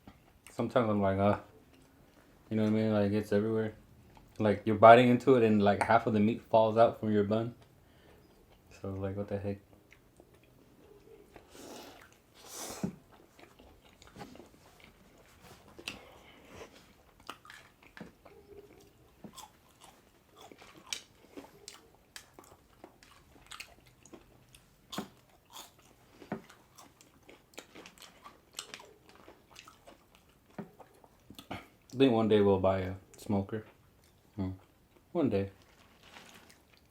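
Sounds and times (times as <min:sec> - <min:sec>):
chewing and crunching food: 0:01.4 - 0:02.8, 0:04.0 - 0:04.4, 0:07.6 - 0:32.1, 0:33.0 - 0:36.9.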